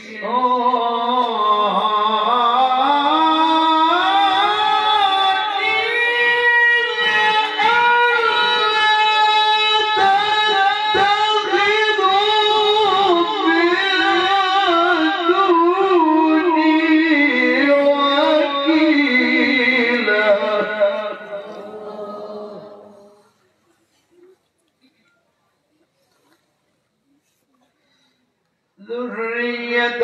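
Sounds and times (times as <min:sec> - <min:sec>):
man reciting melodically: 0:00.0 - 0:24.3, 0:28.8 - 0:30.0.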